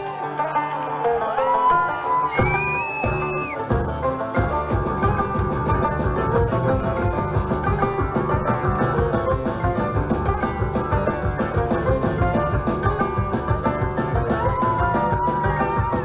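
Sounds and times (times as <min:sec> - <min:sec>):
guitar: 0:00.0 - 0:16.0
plucked banjo: 0:00.0 - 0:16.0.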